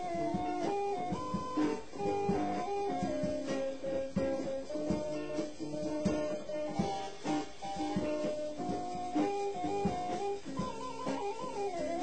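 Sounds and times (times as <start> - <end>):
drum kit beat: 0.0 - 12.0
electric guitar: 0.0 - 12.0
keyboard: 0.0 - 12.0.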